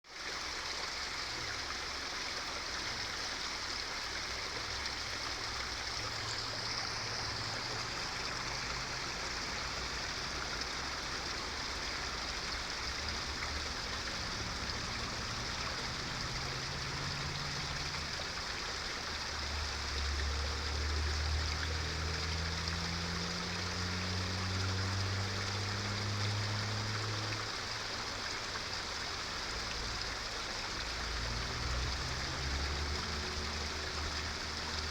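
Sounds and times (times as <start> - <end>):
waterfall rushing: 0.5 - 34.9.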